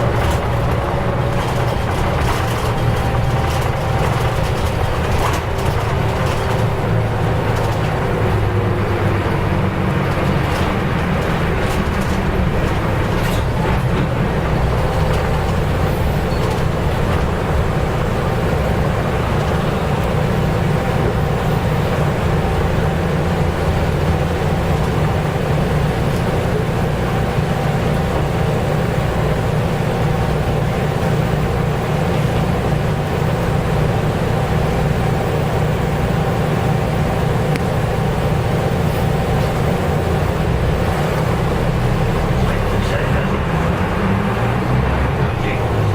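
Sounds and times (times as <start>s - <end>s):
bus engine droning: 0.0s - 45.9s
road noise: 0.0s - 45.9s.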